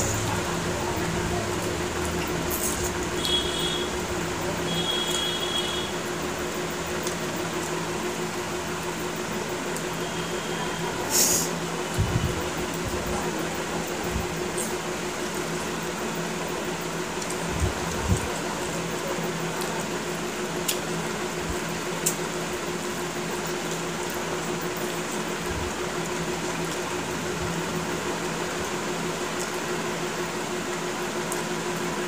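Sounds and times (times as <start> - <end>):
fan humming: 0.0 - 32.0.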